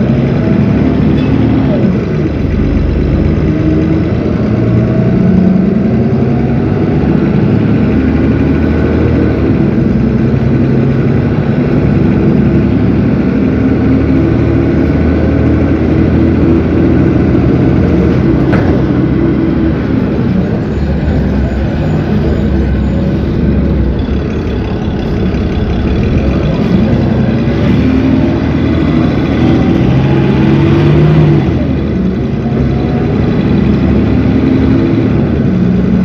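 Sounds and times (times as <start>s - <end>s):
diesel bus engine running: 0.0s - 36.0s.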